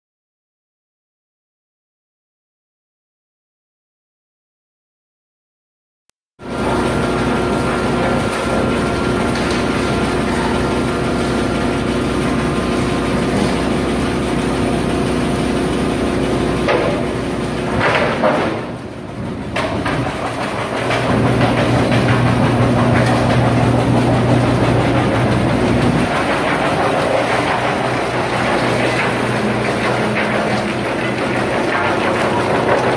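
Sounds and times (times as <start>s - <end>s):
wood chipper machine hum: 6.4s - 32.9s.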